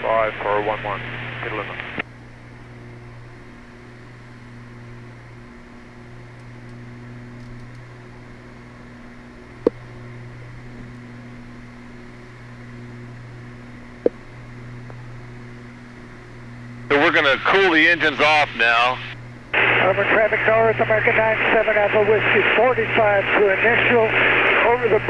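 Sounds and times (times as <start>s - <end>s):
airplane engines droning in cabin: 0.0s - 25.0s.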